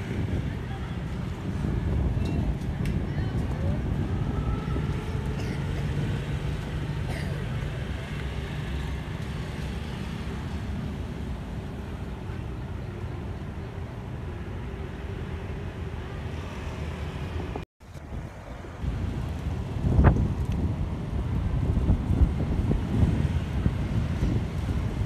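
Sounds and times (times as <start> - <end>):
motorbikes passing: 0.0 - 25.0
road traffic rumble: 0.0 - 25.0.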